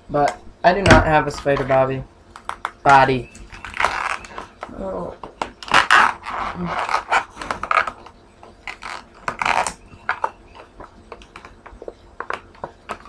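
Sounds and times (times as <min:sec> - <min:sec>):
balloon rubbing and scraping: 0:01.2 - 0:13.0.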